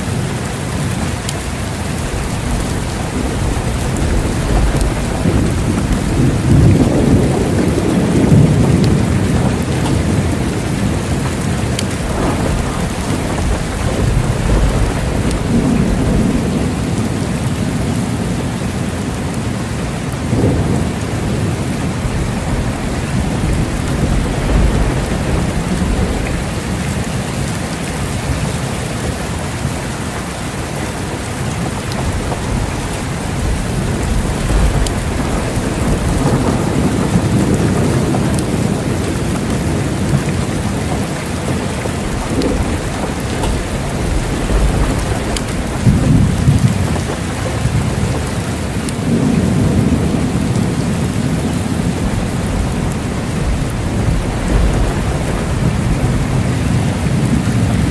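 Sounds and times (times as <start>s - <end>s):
heavy rain pattering: 0.0s - 57.9s
low rolling thunder: 0.0s - 57.9s.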